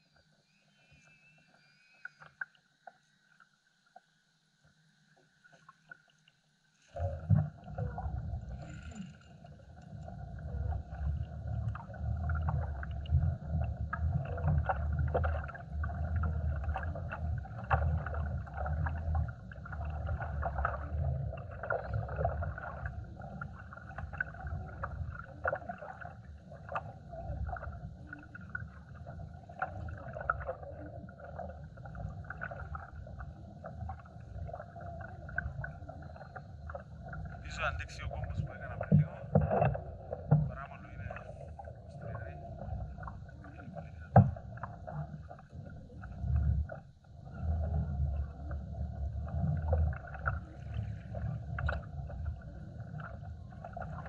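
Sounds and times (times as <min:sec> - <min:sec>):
water lapping against kayak hull: 0:05.2 - 0:54.0.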